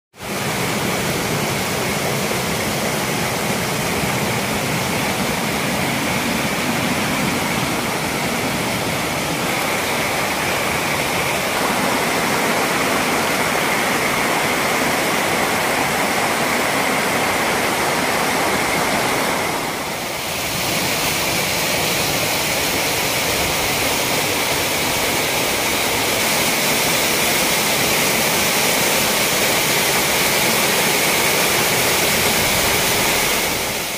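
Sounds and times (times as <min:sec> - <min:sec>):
waterfall rushing over rocks: 0:00.2 - 0:33.9.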